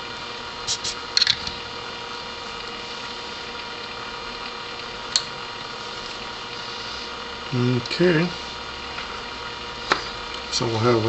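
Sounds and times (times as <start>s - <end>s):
faint electrical hum: 0.0s - 11.0s
steady background hiss: 0.0s - 11.0s.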